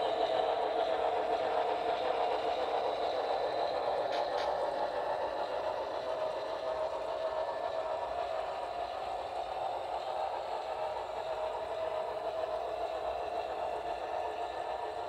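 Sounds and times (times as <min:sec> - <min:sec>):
model train wheels whirring: 0:00.0 - 0:15.0.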